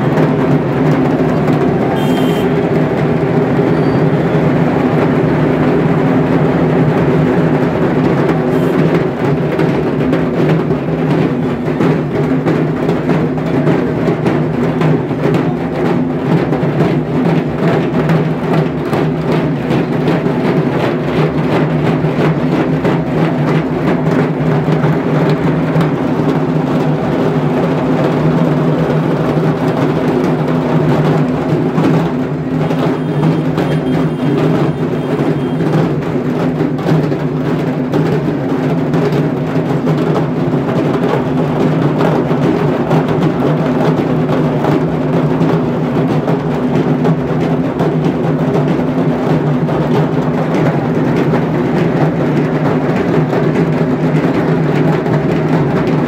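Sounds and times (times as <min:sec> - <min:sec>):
barrel drums beaten with sticks: 0:00.0 - 0:56.0.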